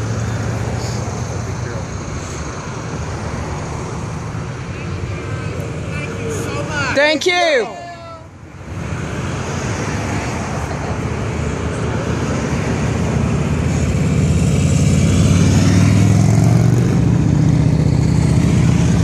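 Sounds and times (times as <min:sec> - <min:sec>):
motorcycle engines passing: 0:00.0 - 0:19.0
passing traffic: 0:00.0 - 0:19.0.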